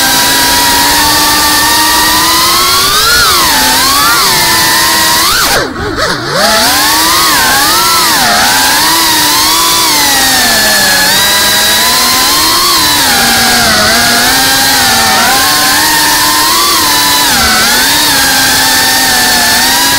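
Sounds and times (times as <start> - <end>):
drone motors whining: 0.0 - 19.9.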